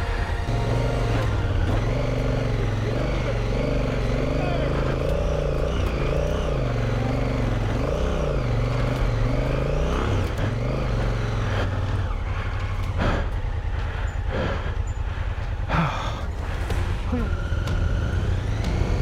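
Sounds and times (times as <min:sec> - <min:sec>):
motorcycle engine at low speed: 0:00.0 - 0:19.0.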